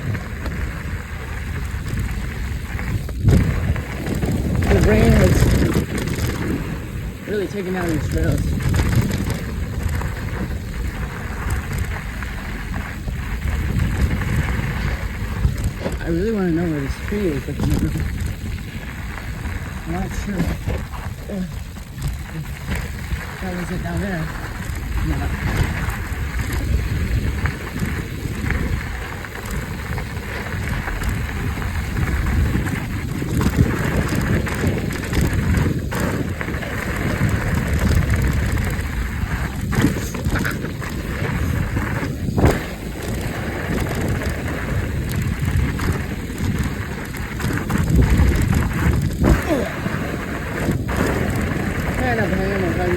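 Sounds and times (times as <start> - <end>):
bike tyres rolling on dirt trail: 0.0 - 52.9
wind on microphone: 0.0 - 52.9
small clicks and rattles: 1.4 - 52.9.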